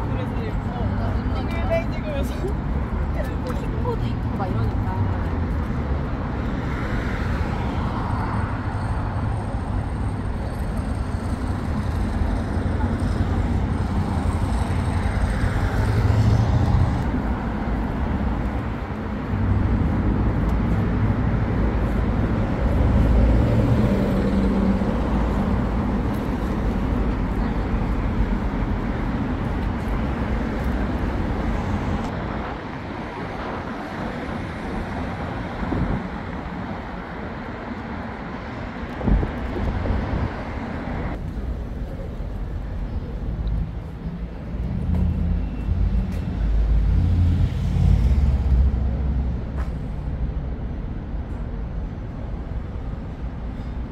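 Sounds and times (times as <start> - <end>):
traffic noise: 0.0 - 53.9
voices of passers-by: 0.0 - 53.9.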